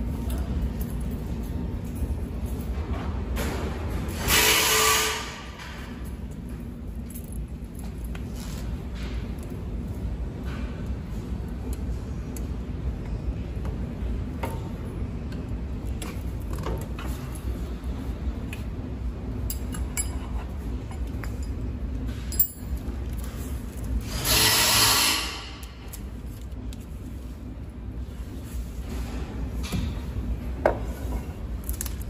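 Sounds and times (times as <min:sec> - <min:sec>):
steady low hum: 0:00.0 - 0:04.3, 0:05.1 - 0:32.0.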